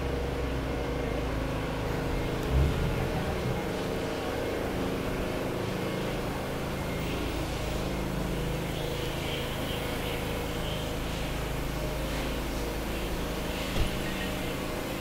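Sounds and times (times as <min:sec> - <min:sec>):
traffic rumble and hum: 0:00.0 - 0:15.0.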